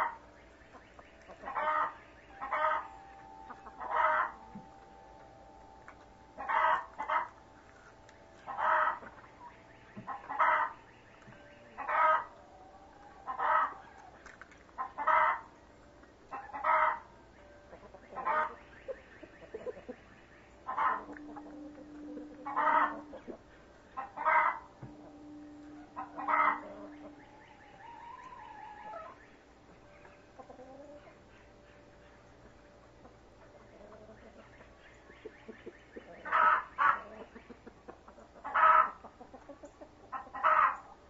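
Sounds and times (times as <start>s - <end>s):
chicken calling: 0.0s - 14.2s, 14.8s - 15.6s, 16.3s - 29.4s, 33.6s - 41.0s.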